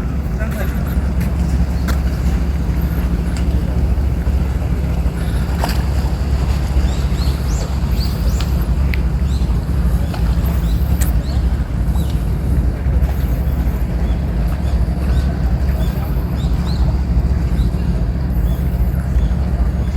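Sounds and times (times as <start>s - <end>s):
seaside ambience: 0.0s - 19.9s.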